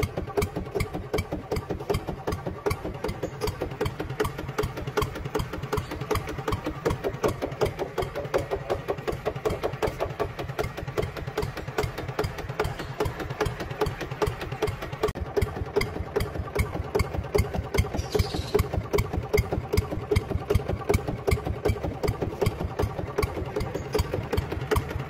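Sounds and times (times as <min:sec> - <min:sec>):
model tractor engine knocking: 0:00.0 - 0:25.0.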